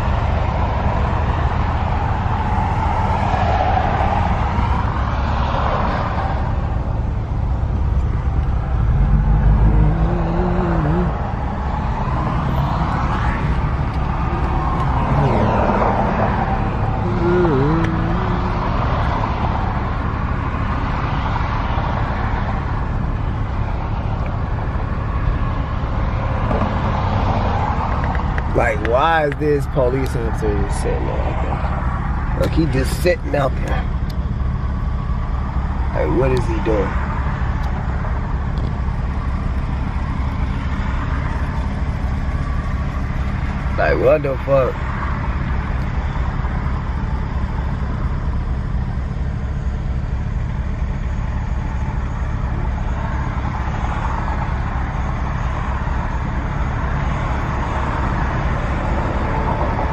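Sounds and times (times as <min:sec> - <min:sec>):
road and engine rumble in car: 0:00.0 - 0:59.9.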